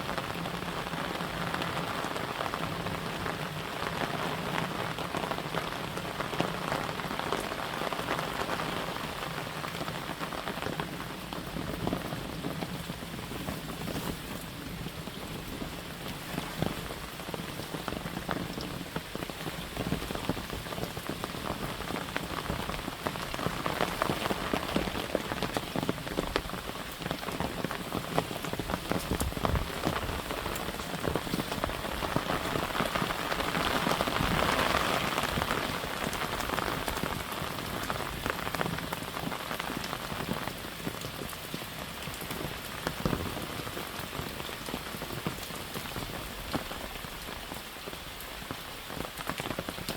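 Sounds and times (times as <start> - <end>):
raindrops tapping on umbrella: 0.0 - 49.9
steady rain falling: 0.0 - 49.9.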